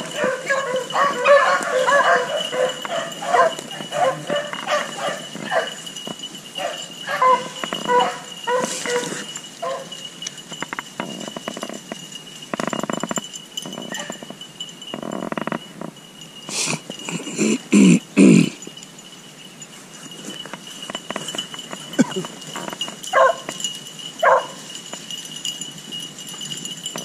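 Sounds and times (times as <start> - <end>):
rustling: 0.0 - 17.6, 18.6 - 27.0
hounds baying and yelping: 0.0 - 27.0.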